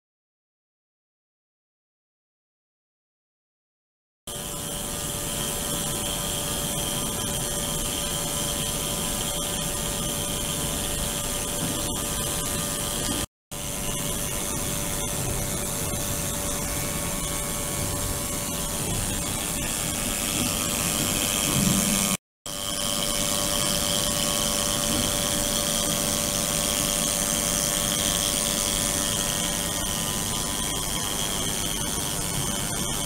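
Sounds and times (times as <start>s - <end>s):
ultrasonic tank buzzing hiss: 4.4s - 33.0s.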